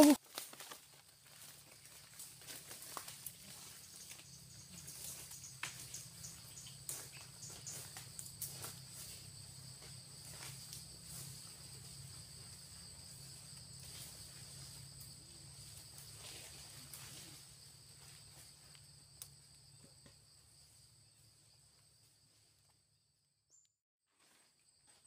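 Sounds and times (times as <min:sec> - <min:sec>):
insect chorus: 0:00.0 - 0:23.6.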